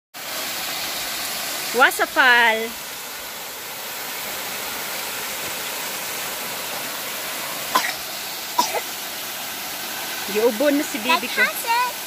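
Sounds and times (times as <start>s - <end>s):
small waterfall rushing over rocks: 0.2s - 12.0s.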